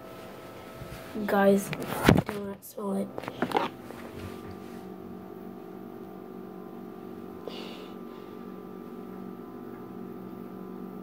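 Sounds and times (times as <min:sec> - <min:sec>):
electrical machine hum: 0:00.0 - 0:11.0.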